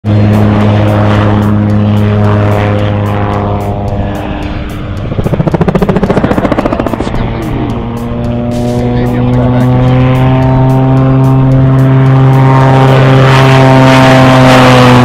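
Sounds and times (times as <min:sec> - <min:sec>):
gyrocopter engine and propeller drone: 0:00.0 - 0:15.0.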